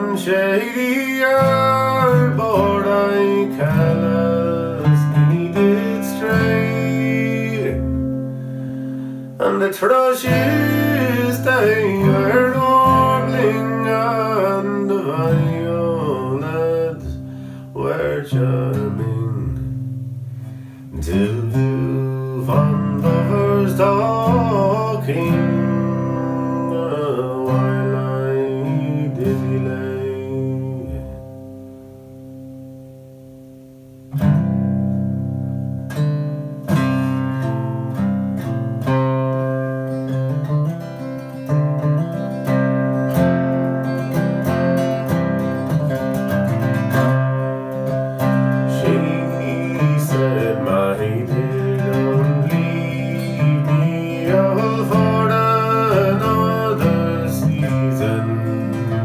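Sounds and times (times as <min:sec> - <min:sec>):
acoustic guitar chord ringing: 0:00.0 - 0:59.0
fingerpicked acoustic guitar: 0:00.0 - 0:59.0.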